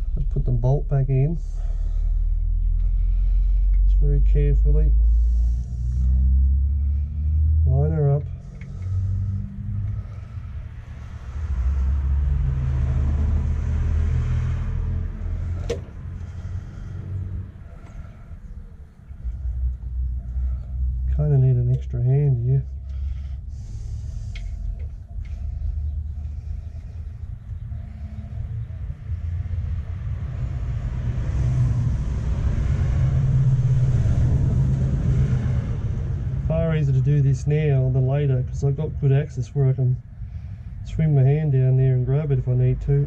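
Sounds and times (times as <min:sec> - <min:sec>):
passing vehicle engine rumble: 0:00.0 - 0:43.0.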